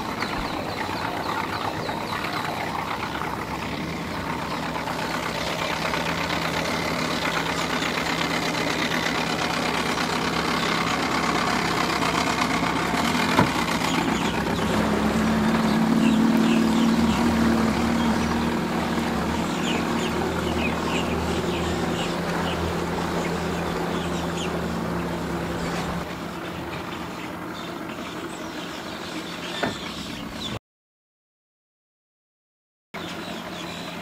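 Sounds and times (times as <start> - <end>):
outboard motor running: 0.0 - 30.6, 33.0 - 34.0.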